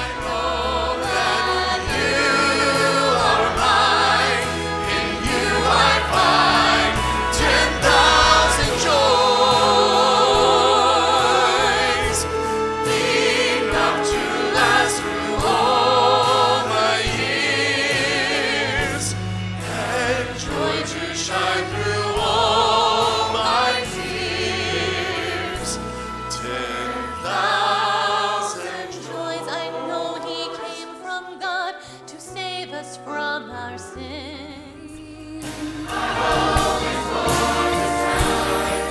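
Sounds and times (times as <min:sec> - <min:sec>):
instrumental accompaniment: 0:00.0 - 0:31.6, 0:35.4 - 0:38.9
choir singing with vibrato: 0:00.0 - 0:32.4, 0:35.4 - 0:38.9.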